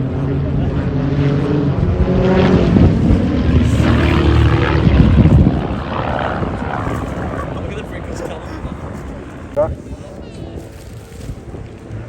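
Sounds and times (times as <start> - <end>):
propeller planes droning past: 0.0 - 12.0.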